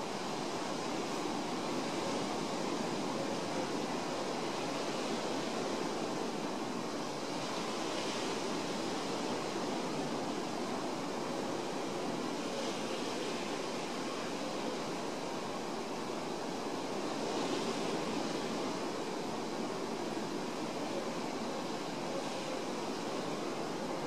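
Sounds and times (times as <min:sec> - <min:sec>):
surf washing onto shore: 0:00.0 - 0:24.0.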